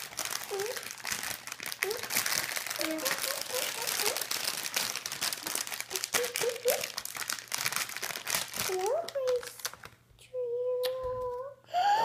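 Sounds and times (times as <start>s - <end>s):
plastic wrappers crinkling: 0.0s - 10.1s.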